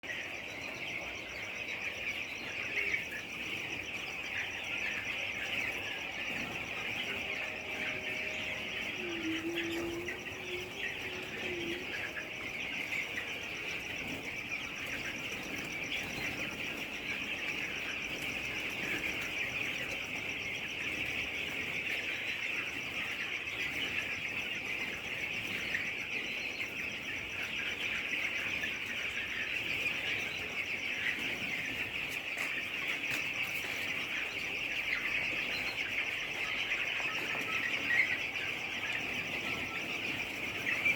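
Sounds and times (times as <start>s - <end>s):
flock of chickens calling: 0.0s - 40.9s.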